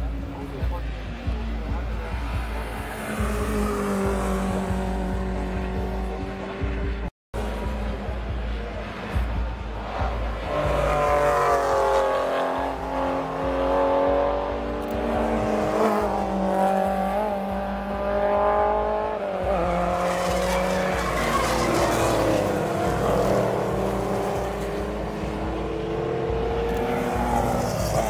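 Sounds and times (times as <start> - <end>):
race cars passing at speed: 0.0 - 28.0.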